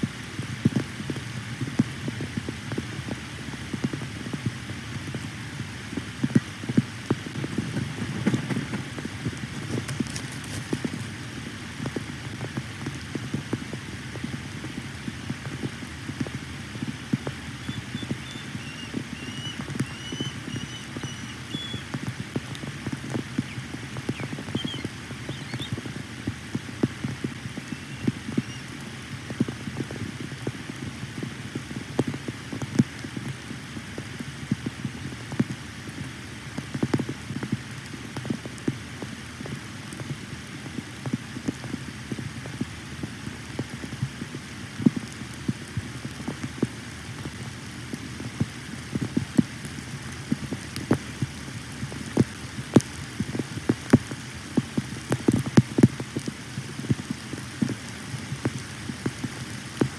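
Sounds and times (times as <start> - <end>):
raindrops tapping on camera: 0.0 - 59.9
steady rain: 0.0 - 59.9.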